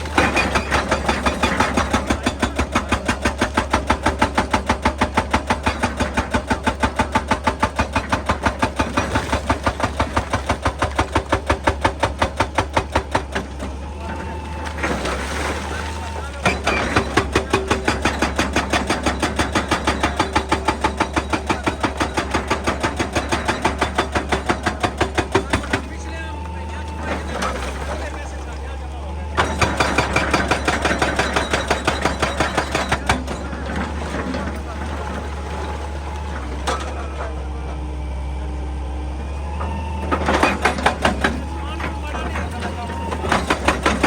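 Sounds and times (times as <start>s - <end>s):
hydraulic breaker hammering rock: 0.0s - 37.8s, 39.4s - 44.0s
diesel engine hum: 0.0s - 44.0s.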